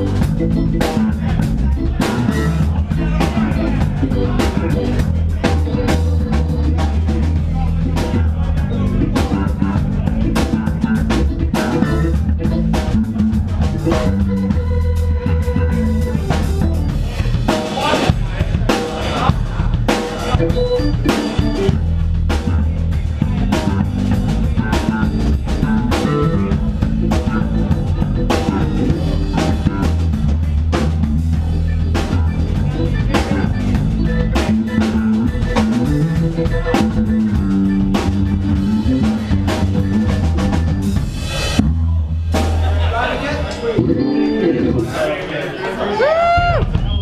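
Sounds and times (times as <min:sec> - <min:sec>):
electric guitar: 0:00.0 - 0:17.7, 0:19.9 - 0:41.7, 0:43.6 - 0:45.1
drum kit steady beat: 0:00.0 - 0:45.1, 0:46.0 - 0:47.0
keyboard: 0:00.0 - 0:47.0
live band playing: 0:00.0 - 0:47.0.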